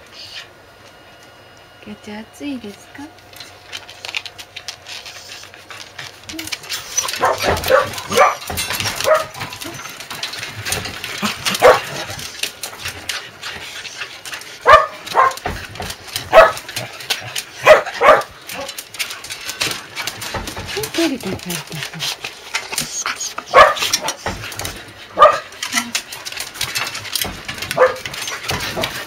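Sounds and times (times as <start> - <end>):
light clicking and rattling: 3.1 - 29.0
dogs barking excitedly: 5.0 - 29.0.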